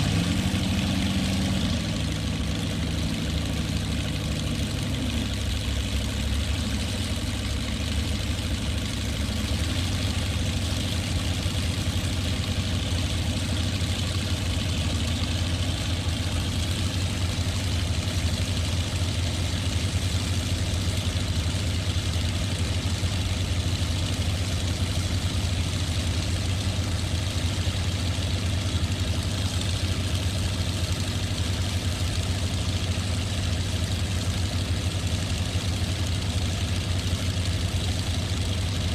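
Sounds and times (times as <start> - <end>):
airboat engine droning: 0.0 - 38.9.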